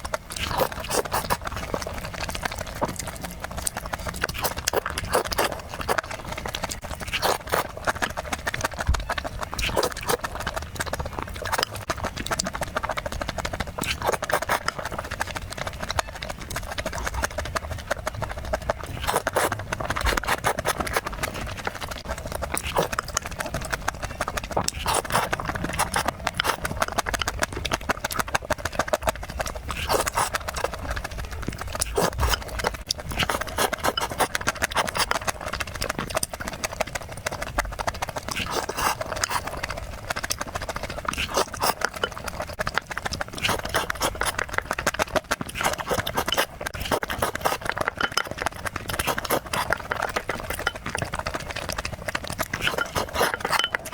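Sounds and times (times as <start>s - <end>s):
wet chewing and lip smacking: 0.0s - 53.9s.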